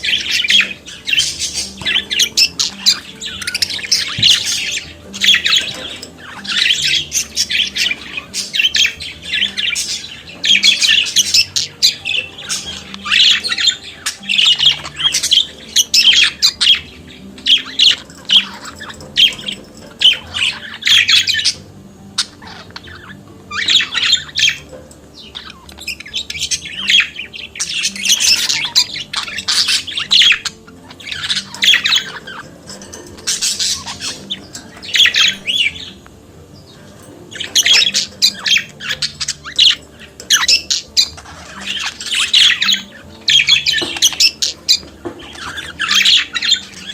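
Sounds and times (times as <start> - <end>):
budgerigars warbling and chattering: 0.0 - 46.9.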